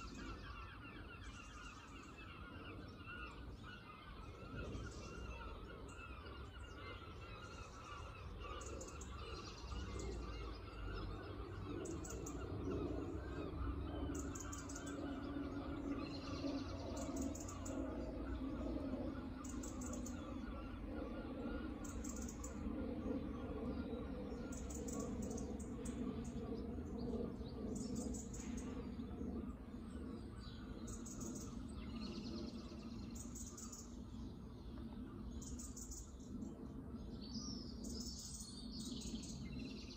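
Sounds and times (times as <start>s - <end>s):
low background rumble: 0.0s - 39.9s
small birds chirping: 0.0s - 39.9s.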